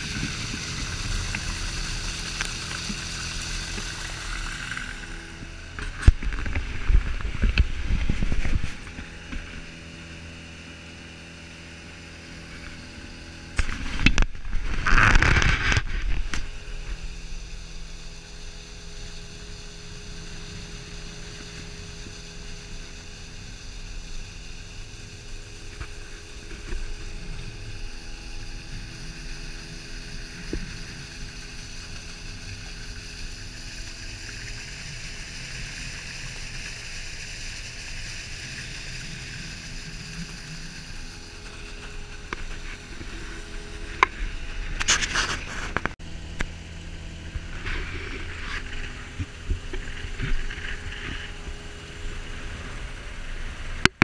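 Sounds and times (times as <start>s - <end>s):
motor running: 0.0s - 54.0s.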